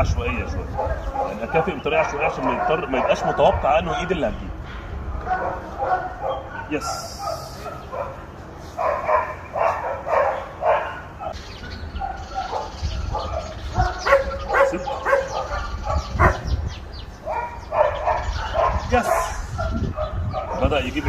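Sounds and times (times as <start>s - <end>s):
dog barking: 0.2s - 4.1s, 5.1s - 11.4s, 12.0s - 16.6s, 17.2s - 20.8s.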